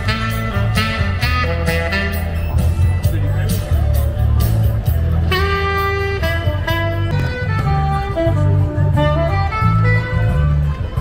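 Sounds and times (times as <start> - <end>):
steady bass line: 0.0 - 11.0.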